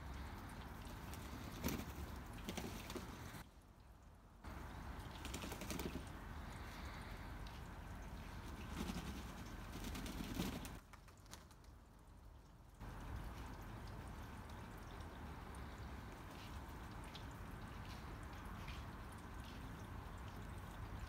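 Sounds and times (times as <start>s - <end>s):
pigeons splashing in water: 0.0s - 3.4s, 4.5s - 21.0s
water dripping: 0.0s - 21.0s.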